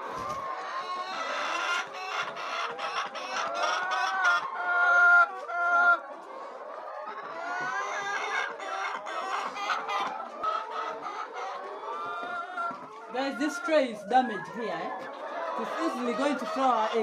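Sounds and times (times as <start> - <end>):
chickens clucking: 0.0 - 17.0
drawn-out chicken call: 0.0 - 17.0.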